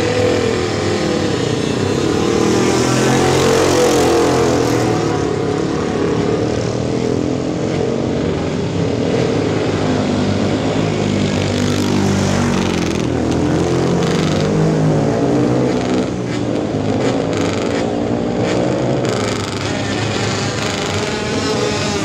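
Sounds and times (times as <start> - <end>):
racing motorcycle engines revving: 0.0 - 22.0.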